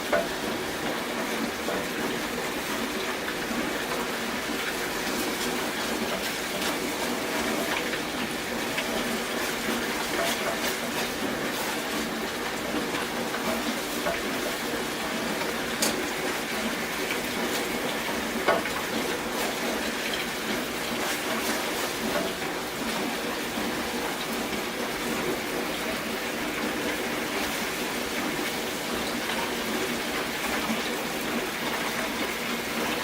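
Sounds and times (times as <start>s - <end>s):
sauce simmering in a pot: 0.0s - 33.0s.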